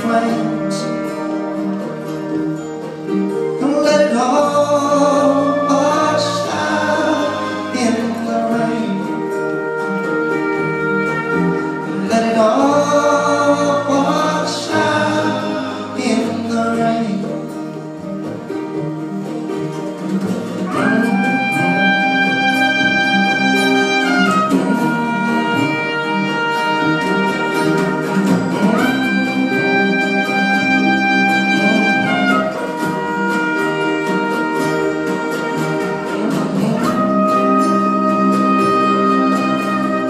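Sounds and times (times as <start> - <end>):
live band playing instrumental: 0.0 - 40.0.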